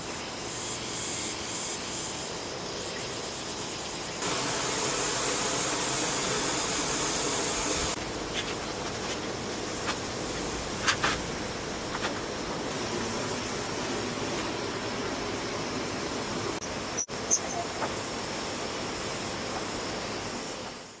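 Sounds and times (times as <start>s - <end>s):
high hiss: 0.0s - 21.0s
insects buzzing: 0.0s - 21.0s.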